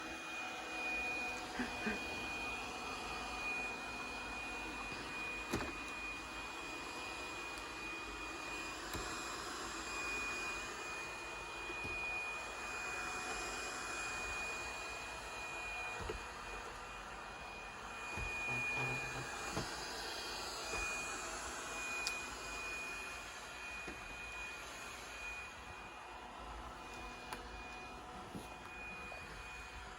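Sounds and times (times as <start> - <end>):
robot vacuum cleaner whirring: 0.0 - 29.9.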